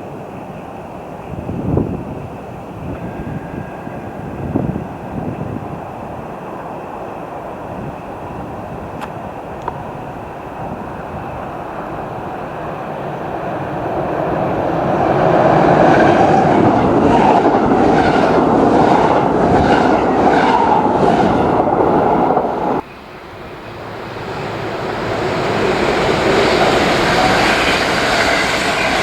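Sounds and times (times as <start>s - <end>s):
train passing: 0.0s - 29.0s.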